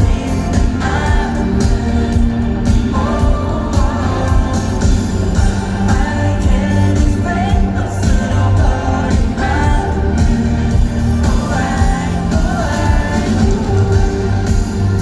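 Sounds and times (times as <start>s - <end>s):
backing music with bass line: 0.0s - 15.0s
group singing pop song live: 0.0s - 15.0s.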